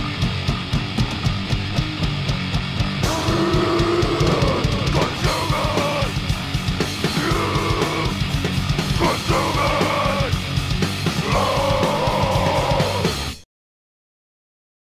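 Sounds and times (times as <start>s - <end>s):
bass guitar: 0.0s - 13.4s
distorted electric guitar: 0.0s - 13.4s
fast drums: 0.0s - 13.4s.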